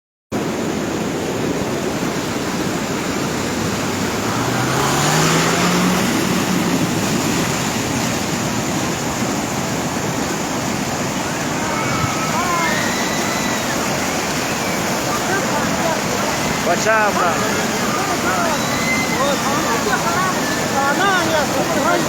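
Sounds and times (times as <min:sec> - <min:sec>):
floodwater rushing: 0:00.4 - 0:22.0.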